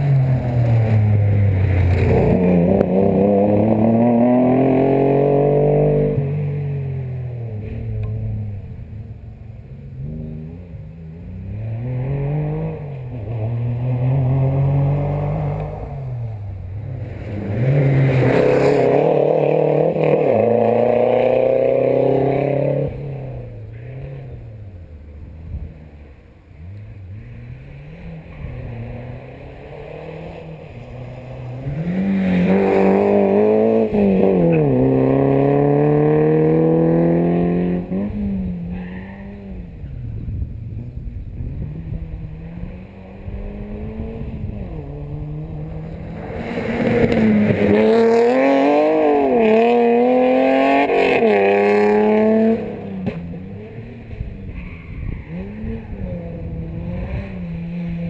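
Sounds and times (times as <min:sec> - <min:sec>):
rally cars accelerating past: 0:00.0 - 0:09.2, 0:09.9 - 0:58.0.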